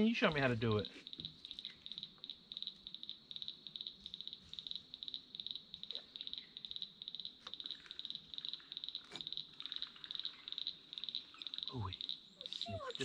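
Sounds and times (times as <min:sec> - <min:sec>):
chorus of rapid pulsed chirps: 0:00.0 - 0:13.0.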